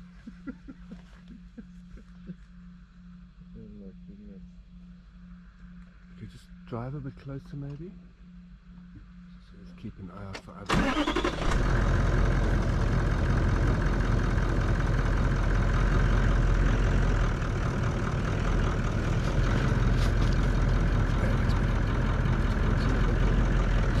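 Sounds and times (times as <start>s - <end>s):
vehicle engine low drone: 0.0s - 24.0s.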